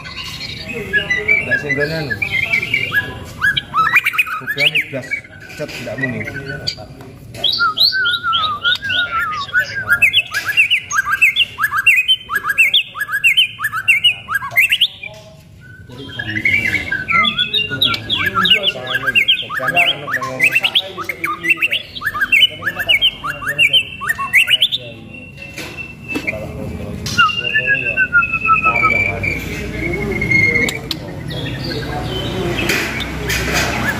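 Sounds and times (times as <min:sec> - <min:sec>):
bird singing whistled notes: 0:00.0 - 0:33.9.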